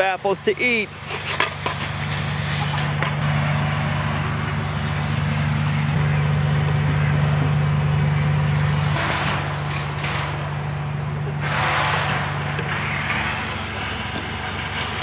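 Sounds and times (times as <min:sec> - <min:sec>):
engine humming: 0:00.2 - 0:15.0.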